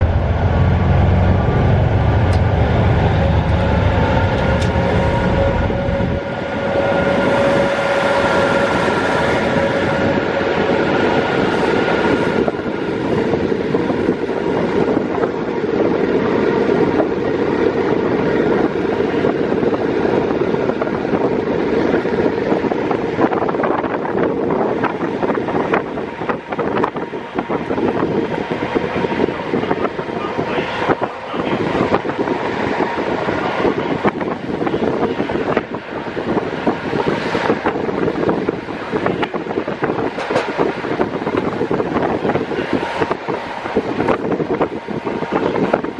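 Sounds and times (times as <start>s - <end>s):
steady whine: 0.0s - 45.9s
train engine droning: 0.0s - 45.9s
wind through open window: 0.0s - 45.9s.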